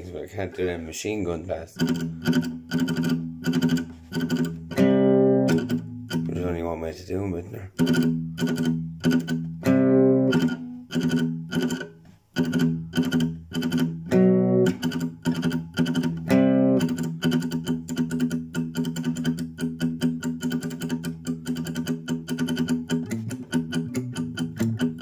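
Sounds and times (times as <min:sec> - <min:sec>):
classical guitar strumming: 0:01.8 - 0:06.9, 0:07.7 - 0:25.0.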